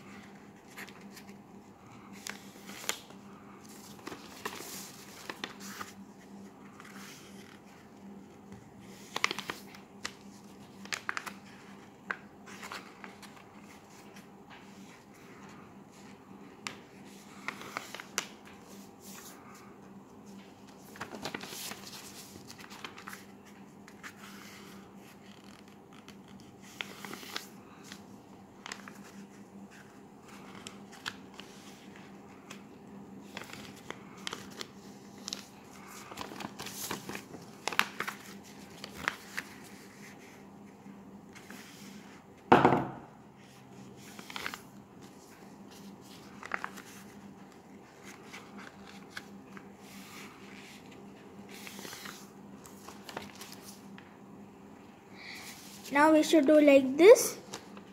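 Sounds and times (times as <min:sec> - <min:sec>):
paper rustling and crinkling: 0:00.0 - 0:42.2, 0:43.4 - 0:54.2, 0:55.3 - 0:57.9
faint steady hum: 0:00.0 - 0:57.9.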